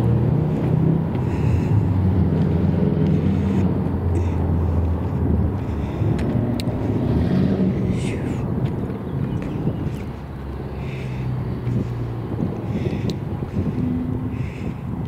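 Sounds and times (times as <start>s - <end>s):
low engine rumble: 0.0s - 15.0s
wind buffeting microphone: 0.0s - 15.0s.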